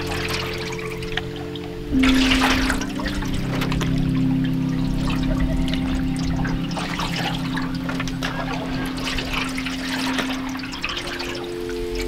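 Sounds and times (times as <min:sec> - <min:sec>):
ambient music drone: 0:00.0 - 0:12.0
waves lapping against canoe hull: 0:00.0 - 0:12.0.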